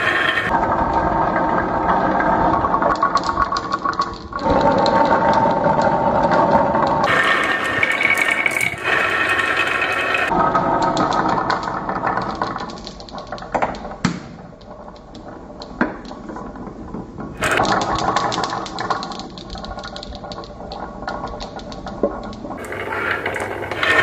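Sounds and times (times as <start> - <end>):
marbles clattering on wooden tracks: 0.0 - 24.0.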